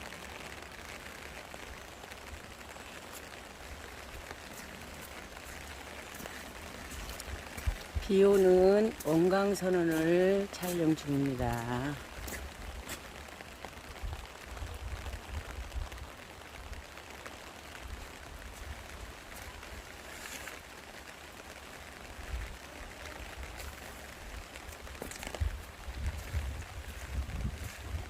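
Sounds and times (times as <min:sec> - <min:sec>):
mountain stream flowing: 0:00.0 - 0:28.0
rain: 0:00.0 - 0:28.0.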